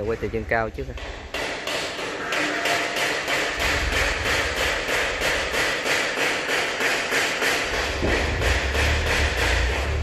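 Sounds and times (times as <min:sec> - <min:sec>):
rapid regular knocking: 0:01.0 - 0:09.9.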